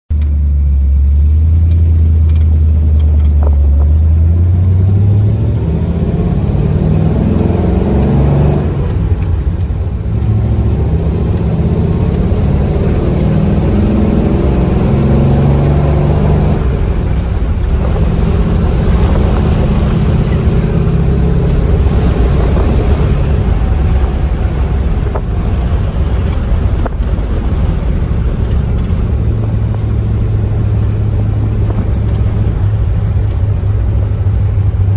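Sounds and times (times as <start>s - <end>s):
car engine revving through gears: 1.3s - 34.9s.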